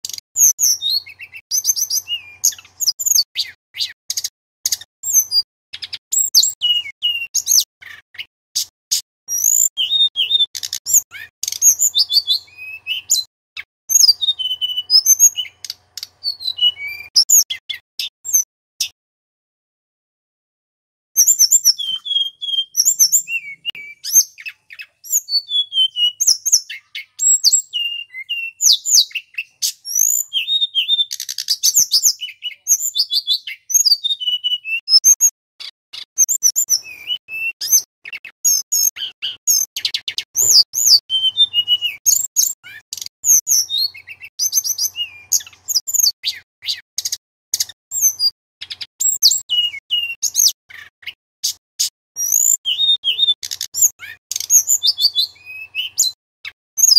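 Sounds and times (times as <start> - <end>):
bird singing whistles and trills: 0.0 - 19.0, 21.2 - 56.9.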